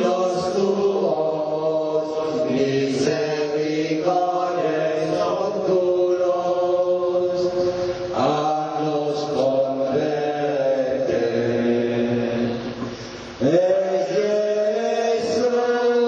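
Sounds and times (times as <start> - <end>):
group singing in unison: 0.0 - 16.0.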